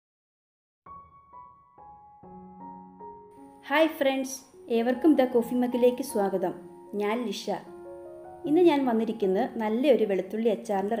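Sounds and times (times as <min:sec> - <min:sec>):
soft piano melody: 0:00.9 - 0:11.0.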